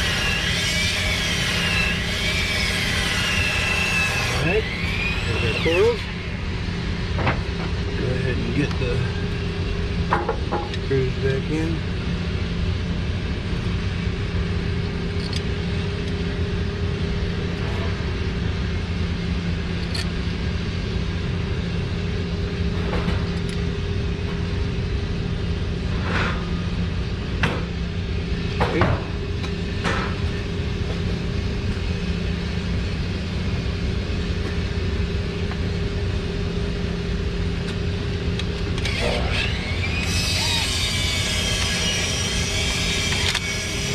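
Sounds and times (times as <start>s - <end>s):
low machine hum: 0.0s - 43.9s.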